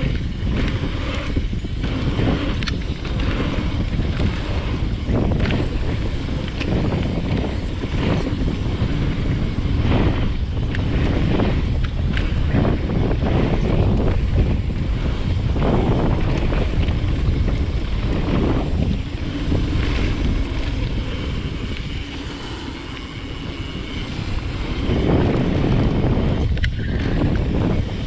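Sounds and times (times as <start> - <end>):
bike tyres rumbling over gravel: 0.0 - 28.0
wind buffeting microphone: 0.0 - 28.0.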